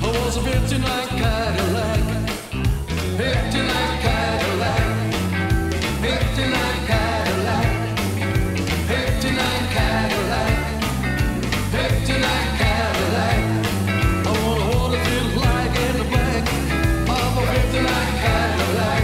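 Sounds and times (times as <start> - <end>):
rock and roll song with singer: 0.0 - 19.0.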